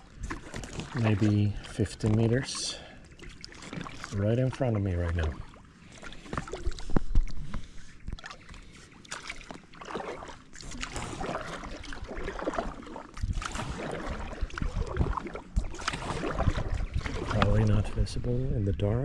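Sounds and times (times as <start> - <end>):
water splashing and dripping: 0.0 - 18.0
paddle working the water: 0.0 - 18.9.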